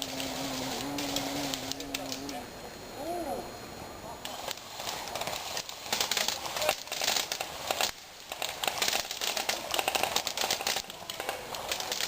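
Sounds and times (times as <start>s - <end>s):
dense rustling and crackling: 0.0s - 2.4s, 4.3s - 12.0s.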